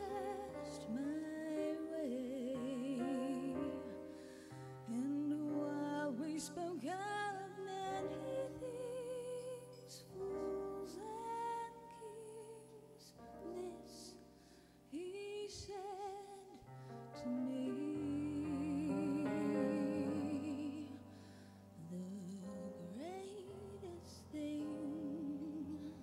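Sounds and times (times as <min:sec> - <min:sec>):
keyboard piano: 0:00.0 - 0:26.0
woman singing a slow ballad: 0:00.0 - 0:26.0.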